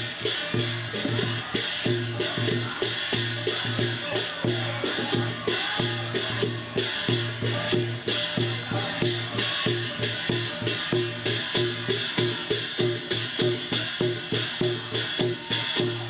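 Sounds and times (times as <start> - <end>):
drums beating steady rhythm: 0.0 - 16.0.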